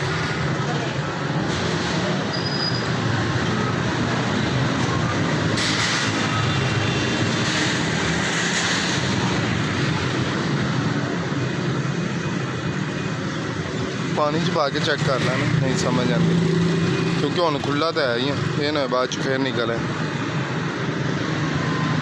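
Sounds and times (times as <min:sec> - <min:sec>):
motor vehicle rumble: 0:00.0 - 0:19.0.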